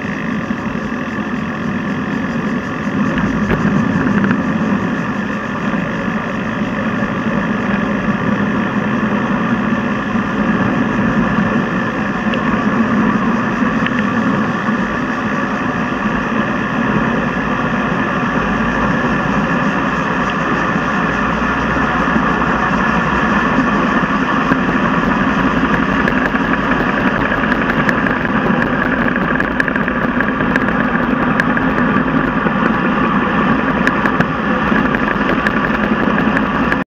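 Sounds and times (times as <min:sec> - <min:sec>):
road vibration noise: 0:00.0 - 0:36.9
wind noise: 0:00.0 - 0:36.9.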